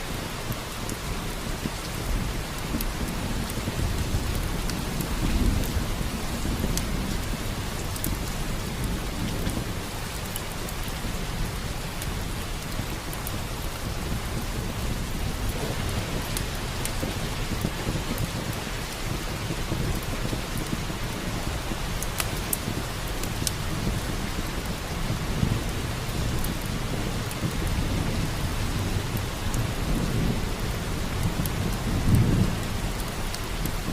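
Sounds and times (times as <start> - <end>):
heavy rain: 0.0 - 33.9
low rumble of thunder: 0.2 - 33.9.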